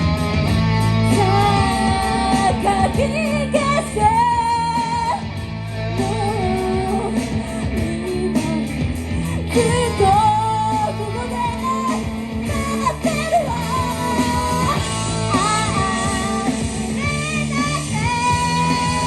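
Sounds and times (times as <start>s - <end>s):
electric guitar: 0.0s - 19.0s
steady low bass: 0.0s - 19.0s
person singing: 1.0s - 5.2s, 6.0s - 19.0s.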